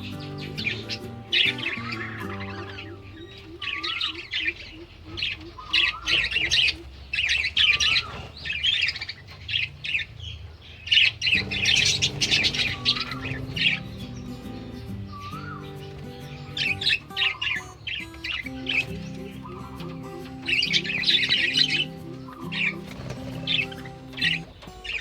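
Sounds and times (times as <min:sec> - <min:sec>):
budgerigars chattering: 0:00.0 - 0:25.0.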